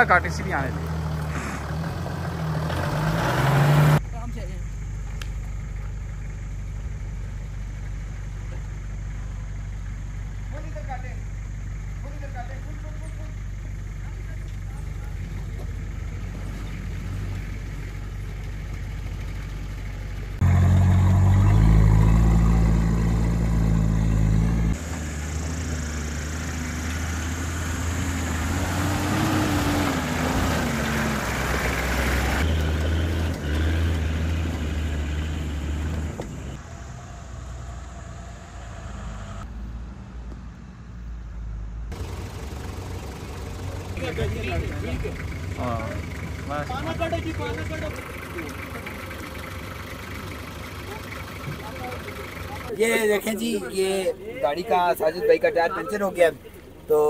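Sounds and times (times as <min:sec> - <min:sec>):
off-road vehicle engine revving: 0:00.0 - 0:04.4, 0:05.2 - 0:57.0.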